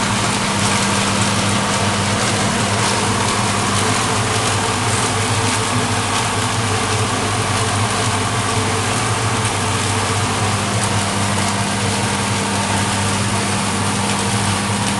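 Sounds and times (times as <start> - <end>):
electric motor hum: 0.0 - 14.9
shredder whirring: 0.0 - 14.9.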